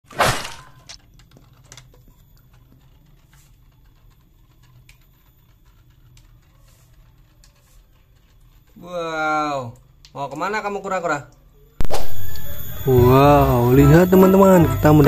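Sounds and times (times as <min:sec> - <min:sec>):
toy turtle ticking and pattering: 0:00.8 - 0:11.5, 0:12.2 - 0:15.0.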